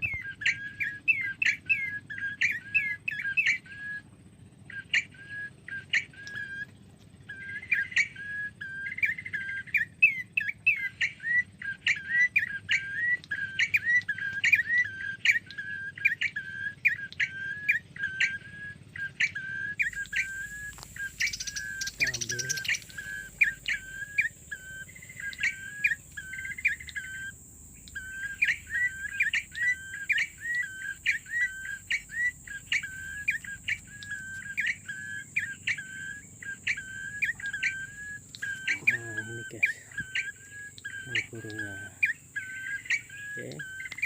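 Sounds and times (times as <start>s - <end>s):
small songbird chirping: 0.0s - 44.0s.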